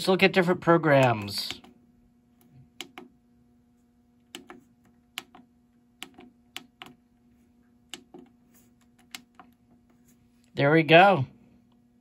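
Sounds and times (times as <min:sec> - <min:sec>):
faint power supply hum: 0:00.0 - 0:12.0.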